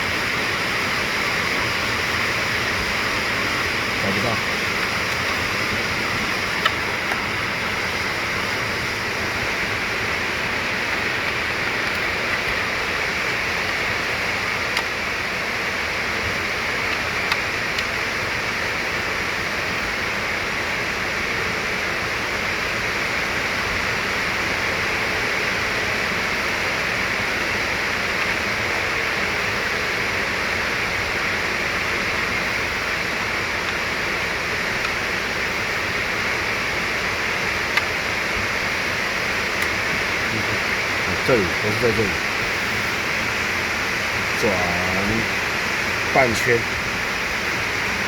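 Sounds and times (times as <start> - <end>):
steady hiss: 0.0 - 48.0.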